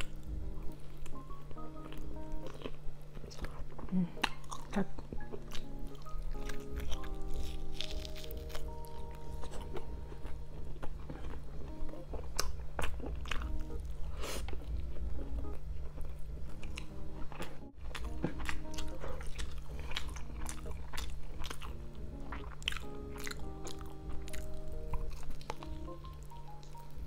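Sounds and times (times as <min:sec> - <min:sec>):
person chewing food: 0:00.0 - 0:27.0
soft background music: 0:00.0 - 0:27.0.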